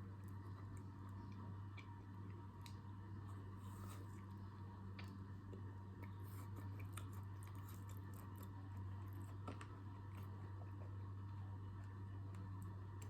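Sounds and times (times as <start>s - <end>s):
chewing and crunching: 0.0s - 13.0s
steady low hum: 0.0s - 13.0s.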